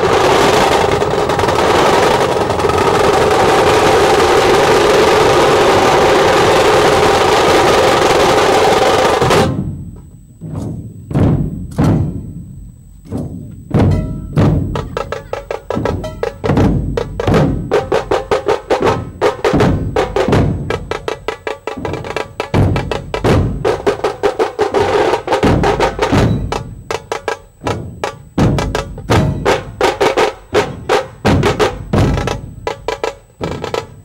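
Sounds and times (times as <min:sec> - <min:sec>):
sharp snare drum strokes: 0:00.0 - 0:09.8, 0:10.4 - 0:12.5, 0:13.1 - 0:34.0
barrel drums beaten with sticks: 0:00.0 - 0:34.0
loud steady noise: 0:00.0 - 0:34.0.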